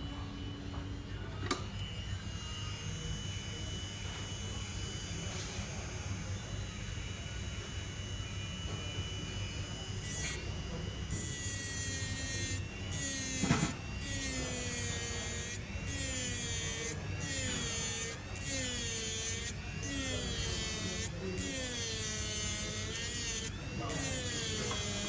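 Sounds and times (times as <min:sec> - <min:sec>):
electric grinding pen whine: 0:00.0 - 0:25.0.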